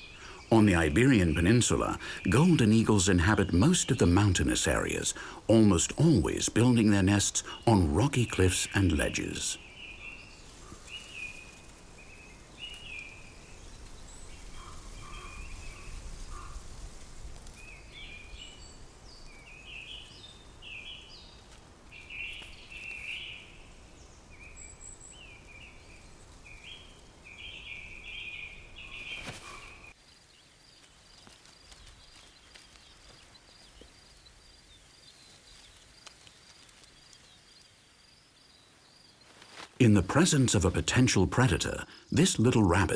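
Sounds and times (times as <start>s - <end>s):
outdoor ambience: 0.0s - 42.9s.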